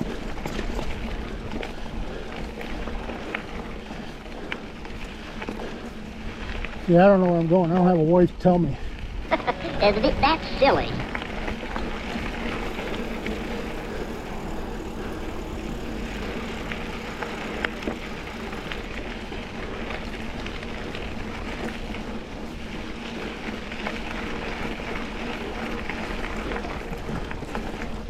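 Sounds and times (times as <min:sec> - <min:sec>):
bike rattling and clicking: 0:00.0 - 0:09.3, 0:11.0 - 0:28.0
bike tyres rolling on dirt: 0:00.0 - 0:28.0.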